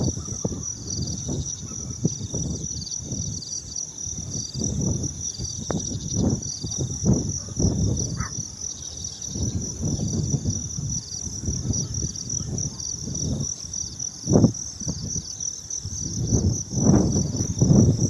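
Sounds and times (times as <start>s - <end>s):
insects chirping: 0.0s - 18.0s
wind gusting against microphone: 0.0s - 18.0s.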